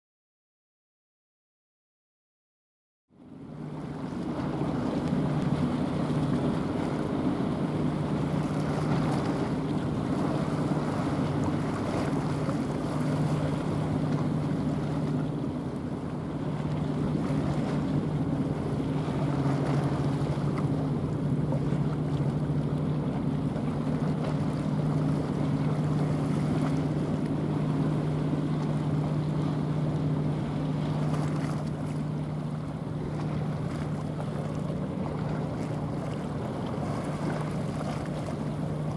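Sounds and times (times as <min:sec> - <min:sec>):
bow wave rushing through water: 0:03.2 - 0:38.9
ship diesel engine droning: 0:03.2 - 0:38.9.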